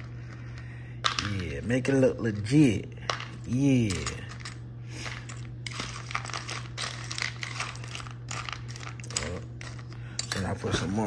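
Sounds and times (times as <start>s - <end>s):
spoon stirring kibble in a bowl: 0.0s - 11.0s
steady low hum: 0.0s - 11.0s.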